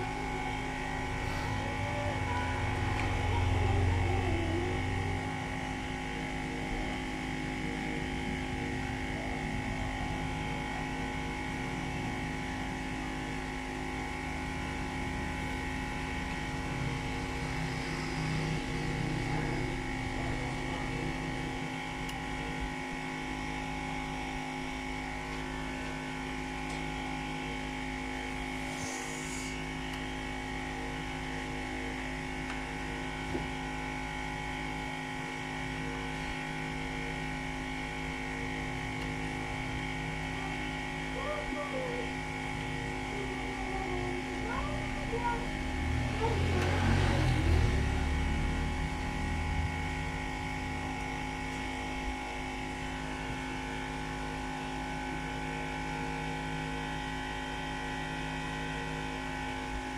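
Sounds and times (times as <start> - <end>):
electrical hum with fixed tones: 0.0 - 59.9.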